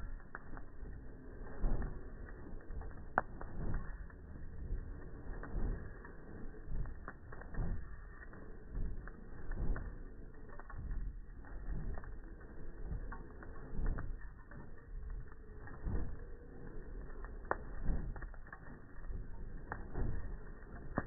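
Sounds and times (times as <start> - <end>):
slowed campfire crackling: 0.0 - 21.0.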